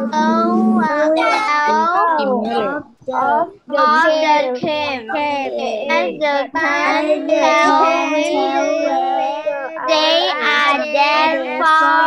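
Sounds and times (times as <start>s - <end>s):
children reading aloud together: 0.0s - 12.0s.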